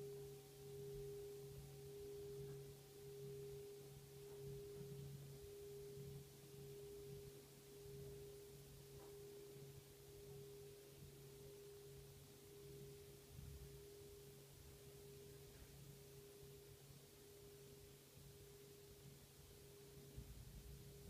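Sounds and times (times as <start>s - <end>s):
singing bowl ringing: 0.0s - 21.0s.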